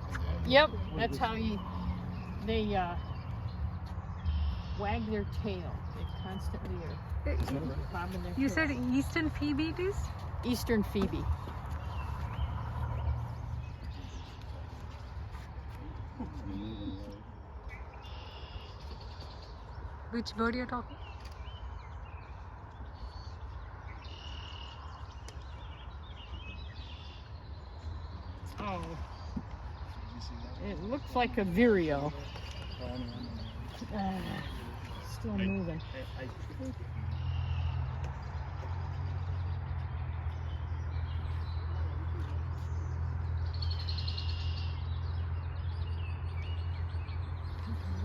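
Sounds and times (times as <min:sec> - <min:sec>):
songbird chirping: 0:00.0 - 0:48.0
steady low hum: 0:00.0 - 0:48.0.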